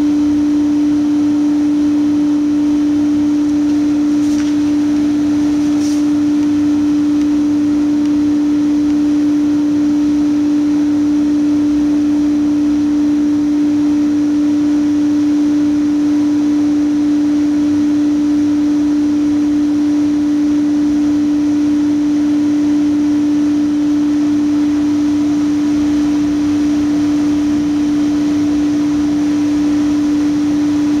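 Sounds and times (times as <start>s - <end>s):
laser cutter humming: 0.0s - 31.0s.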